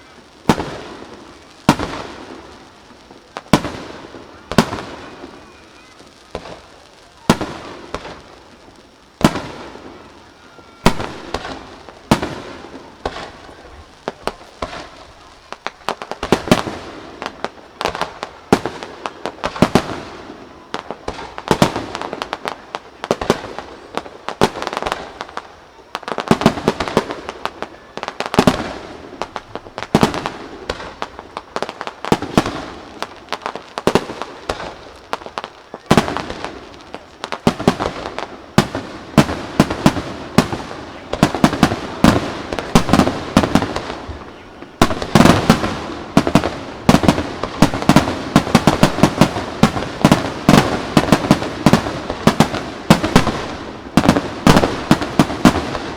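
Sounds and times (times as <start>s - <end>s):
fireworks booming: 0.0s - 55.9s
fireworks crackling: 0.0s - 55.9s.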